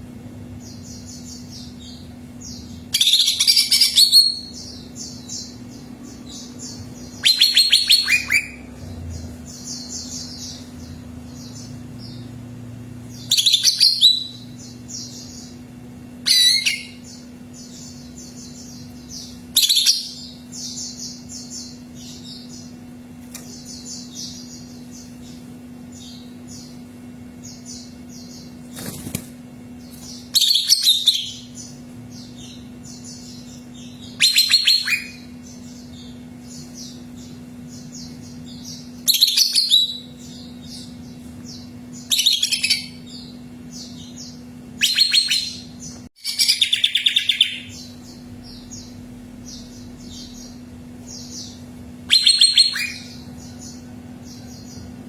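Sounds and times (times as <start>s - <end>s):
steady low hum: 0.0s - 55.0s
bird chirping and twittering: 0.4s - 55.0s.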